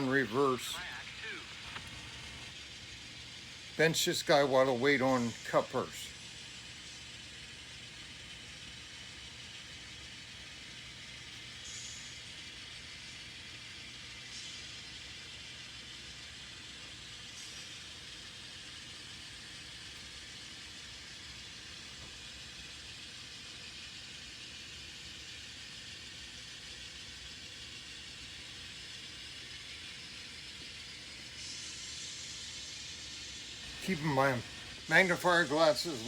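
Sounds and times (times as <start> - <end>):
model train rolling whir: 0.0 - 36.0.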